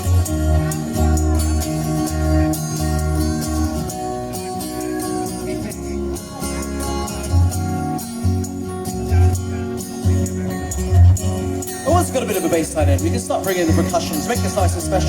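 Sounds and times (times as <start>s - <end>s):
bass line: 0.0s - 15.0s
looped layered guitar: 0.0s - 15.0s.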